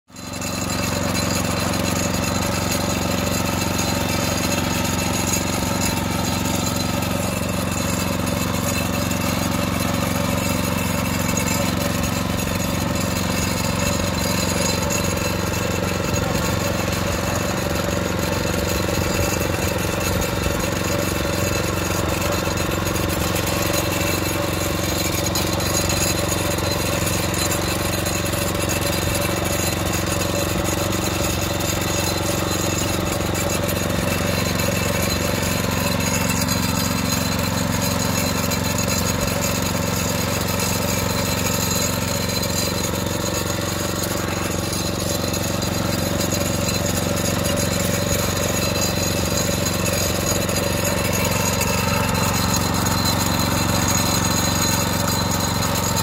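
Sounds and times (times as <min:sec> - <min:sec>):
tracked carrier engine running: 0:00.1 - 0:56.0.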